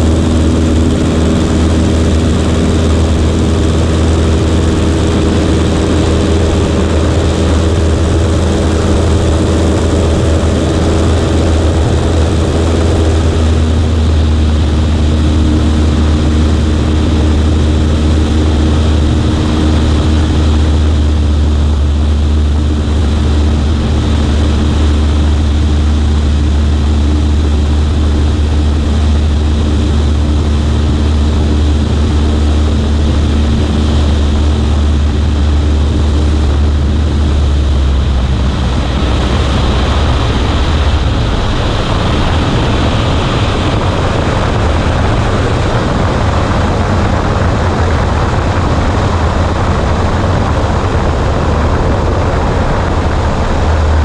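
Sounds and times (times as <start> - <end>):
propeller plane engine running: 0.0 - 54.0.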